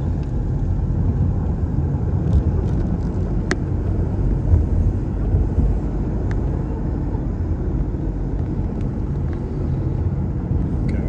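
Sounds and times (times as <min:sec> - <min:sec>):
vehicle driving rumble: 0:00.0 - 0:11.0.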